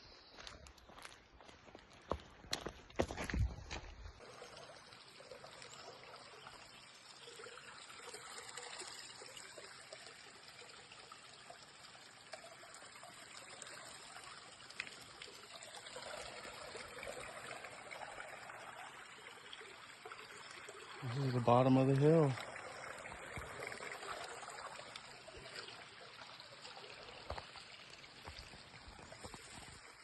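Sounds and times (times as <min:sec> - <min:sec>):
stream trickling: 0:00.1 - 0:30.0.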